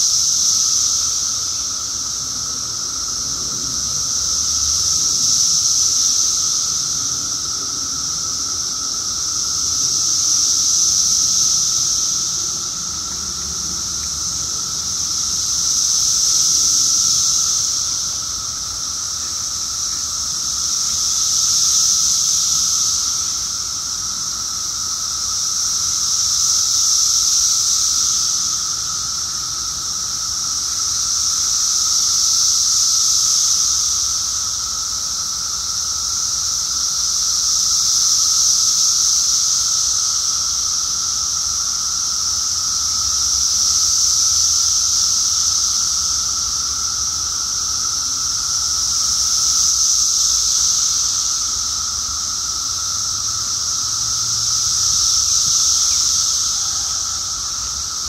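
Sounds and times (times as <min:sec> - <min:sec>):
cicadas high buzzing: 0:00.0 - 0:58.0
lower cicada droning: 0:00.0 - 0:58.0.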